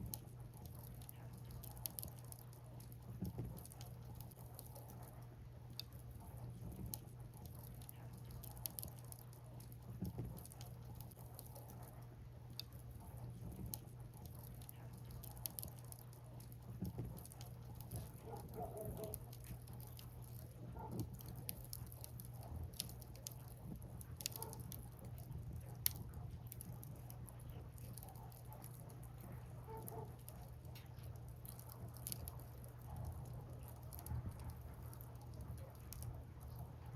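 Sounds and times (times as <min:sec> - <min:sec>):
bonfire crackling and popping: 0:00.1 - 0:36.9.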